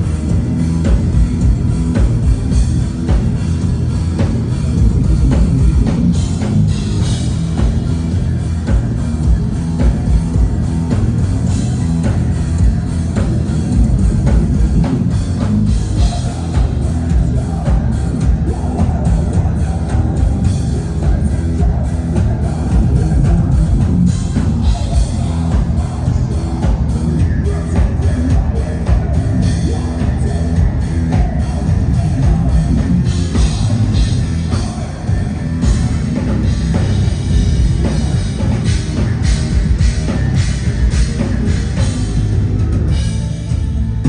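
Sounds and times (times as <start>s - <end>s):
drum kit beat: 0.0s - 44.0s
electric guitars: 0.0s - 44.0s
metal band playing live: 0.0s - 44.0s.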